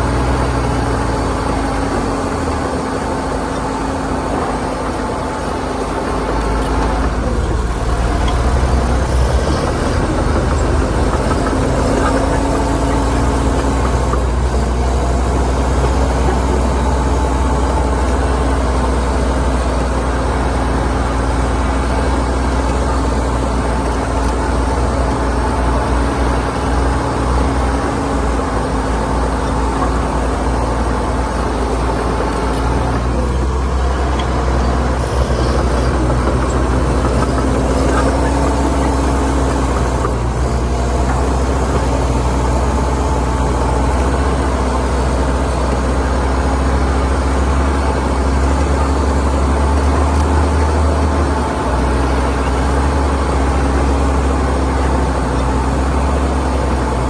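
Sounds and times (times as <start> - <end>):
heavy machinery engine drone: 0.0 - 57.0.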